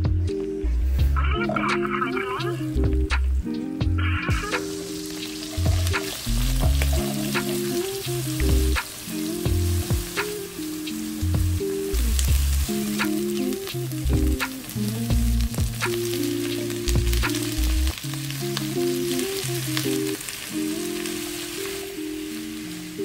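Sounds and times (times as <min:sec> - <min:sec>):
background music: 0:00.0 - 0:23.0
vegetables sizzling in oil: 0:01.4 - 0:23.0.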